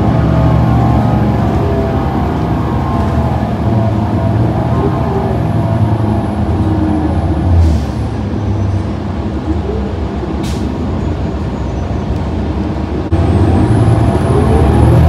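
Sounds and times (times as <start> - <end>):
bus interior engine noise: 0.0 - 15.0.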